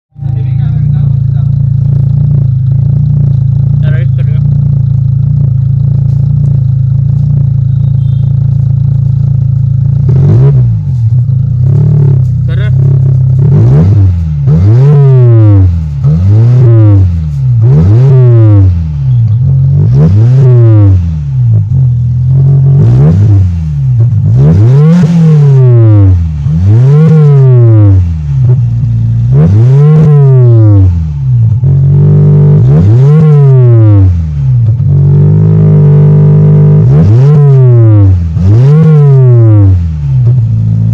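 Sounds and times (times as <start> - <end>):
car engine revving: 0.1 - 40.9.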